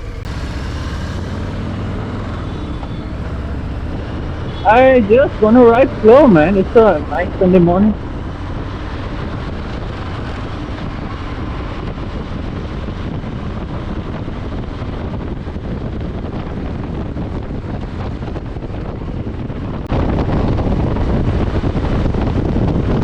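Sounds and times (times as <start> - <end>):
motorcycle engine running: 0.0 - 23.0
wind rushing over microphone: 0.0 - 23.0.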